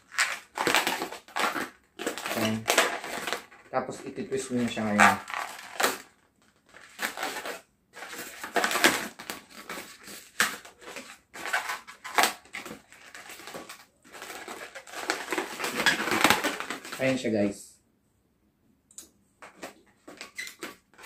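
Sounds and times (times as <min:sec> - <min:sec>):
balloon squeaking and rubbing: 0:00.0 - 0:17.0, 0:20.1 - 0:21.0.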